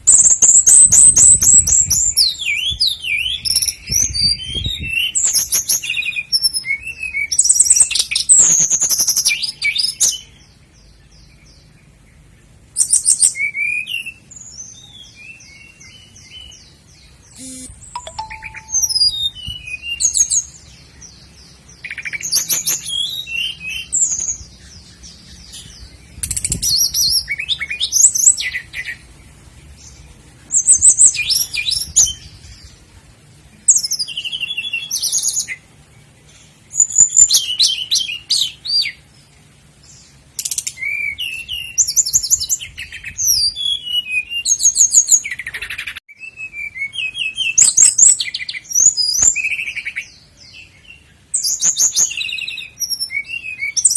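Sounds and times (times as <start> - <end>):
nightingale singing: 0.0 - 32.9, 33.5 - 53.9.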